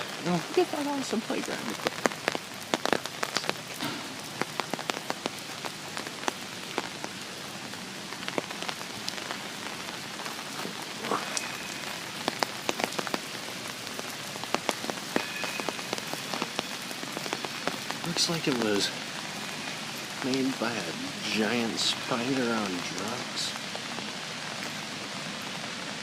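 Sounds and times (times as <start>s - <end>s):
raindrops striking close by: 0.0s - 26.0s
steady rain falling: 0.0s - 26.0s.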